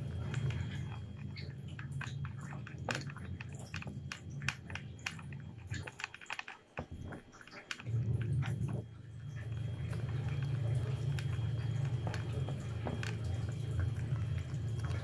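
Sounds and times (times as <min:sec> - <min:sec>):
cat chewing and lapping food: 0:00.0 - 0:15.0
low steady hum: 0:00.0 - 0:15.0.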